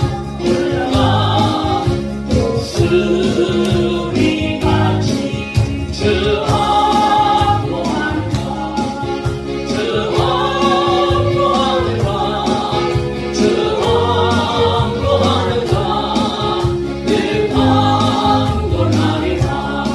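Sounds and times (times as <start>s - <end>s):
choir singing gospel: 0.0s - 19.9s
instrumental accompaniment: 0.0s - 19.9s.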